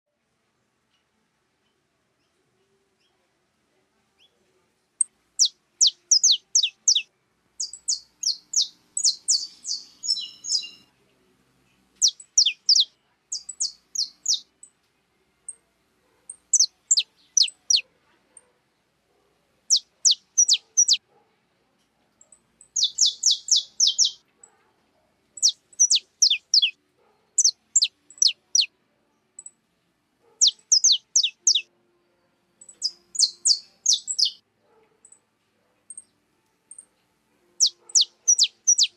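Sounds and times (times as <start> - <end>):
songbirds chirping: 0.1 - 38.9.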